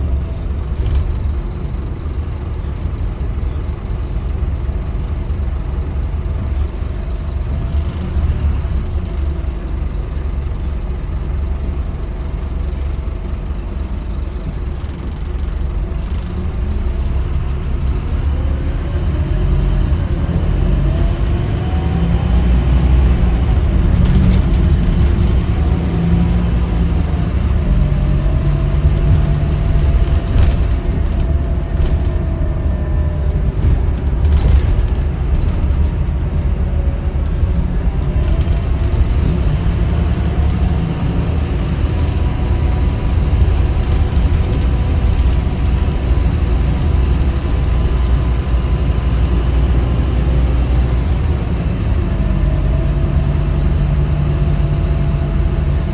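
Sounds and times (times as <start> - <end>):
bus diesel engine rumbling: 0.0 - 55.9.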